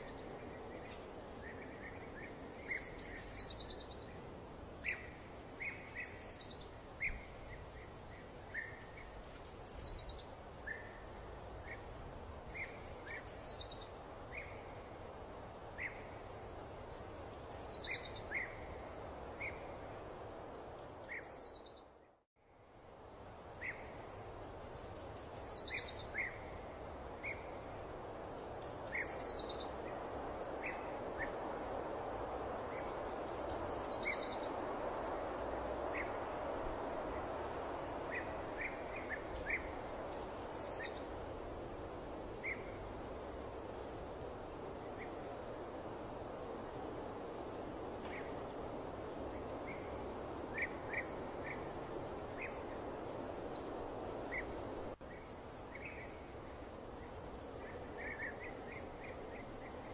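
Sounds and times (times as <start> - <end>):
small birds chirping: 0.0 - 22.2, 23.4 - 59.9.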